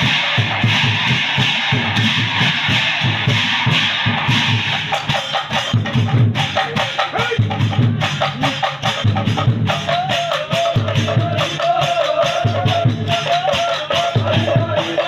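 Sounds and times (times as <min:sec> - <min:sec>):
brass cymbals clashing: 0:00.0 - 0:15.0
drums beating fast rhythm: 0:00.0 - 0:15.0.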